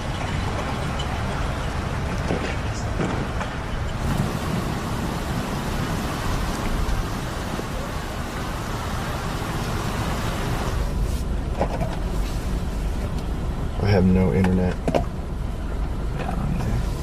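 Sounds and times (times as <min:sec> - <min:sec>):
wind and rain rushing: 0:00.0 - 0:13.8.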